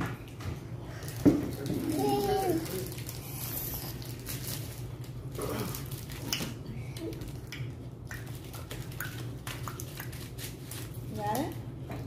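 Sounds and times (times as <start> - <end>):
candy wrappers rustling: 0.9 - 7.5, 8.2 - 11.6.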